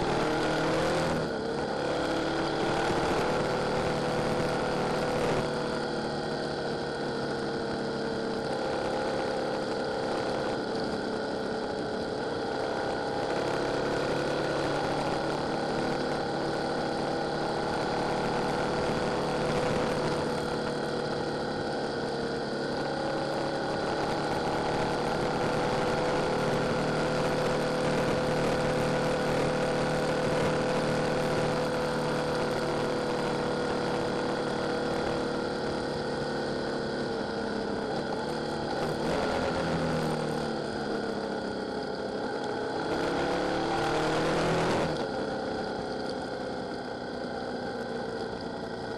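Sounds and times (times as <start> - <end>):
motorcycle engine cruising: 0.0 - 48.9
wind and road noise: 0.0 - 48.9.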